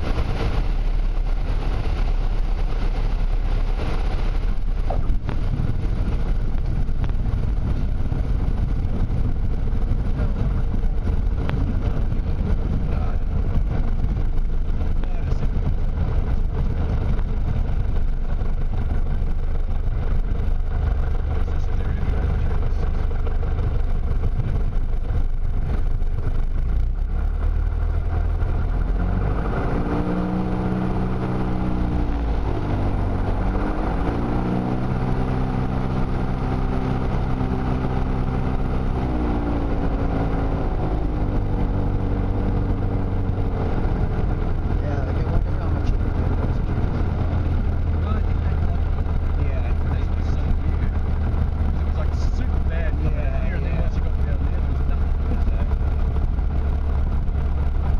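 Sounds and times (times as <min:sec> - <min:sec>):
heavy air noise: 0:00.0 - 0:57.9
propeller aircraft engine running: 0:00.0 - 0:57.9.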